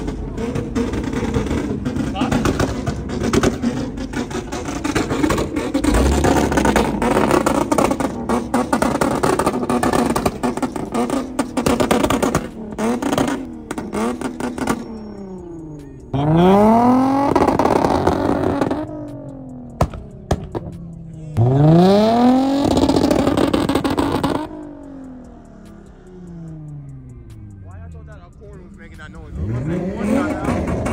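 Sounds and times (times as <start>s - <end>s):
car engines revving: 0.0s - 30.9s
exhaust crackles: 0.0s - 30.9s.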